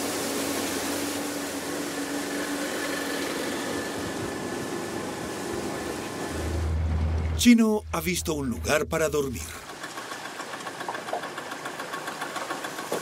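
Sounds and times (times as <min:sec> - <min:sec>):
motorboat engine running: 0:00.0 - 0:13.0
rush of water noise: 0:00.0 - 0:13.0.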